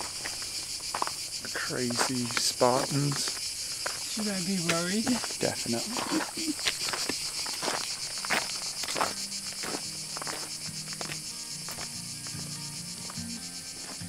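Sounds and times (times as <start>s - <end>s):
cicadas buzzing: 0.0s - 14.0s
footsteps on stony path: 0.0s - 14.0s.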